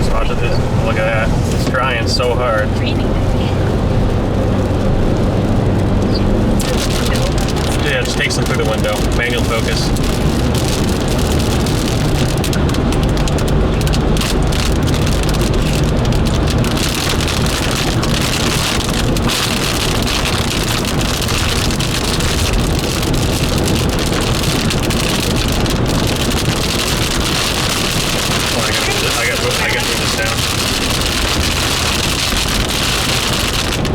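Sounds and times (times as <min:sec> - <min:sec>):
rain on car roof: 0:00.0 - 0:33.9
road and engine rumble: 0:00.0 - 0:33.9.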